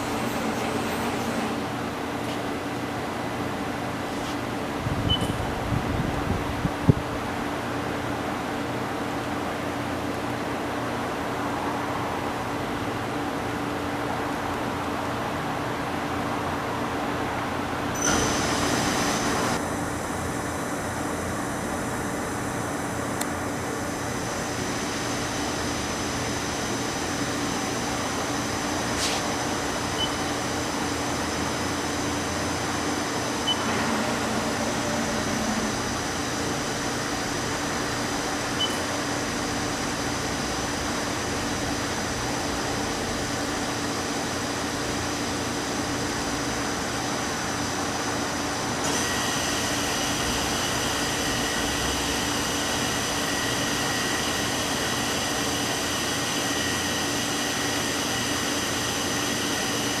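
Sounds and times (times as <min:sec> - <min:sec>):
high machine whine: 0:00.0 - 0:15.2, 0:15.8 - 1:00.0
machine humming with whining tones: 0:00.0 - 1:00.0.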